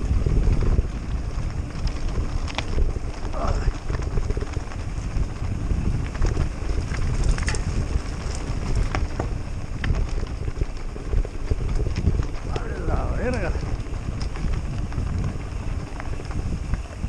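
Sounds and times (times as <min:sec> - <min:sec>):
bike tyres crunching gravel: 0:00.0 - 0:17.0
stones clicking and rattling: 0:00.0 - 0:17.0
wind buffeting microphone: 0:00.0 - 0:17.0.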